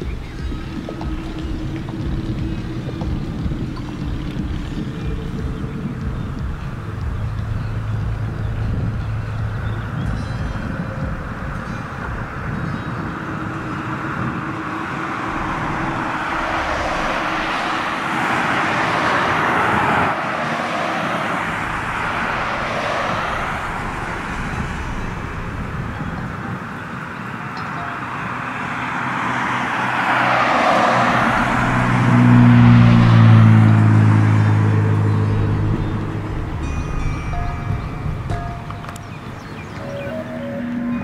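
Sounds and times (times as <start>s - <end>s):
deep engine hum: 0.0s - 20.2s, 21.2s - 28.7s, 29.5s - 41.0s
cars passing: 0.0s - 41.0s.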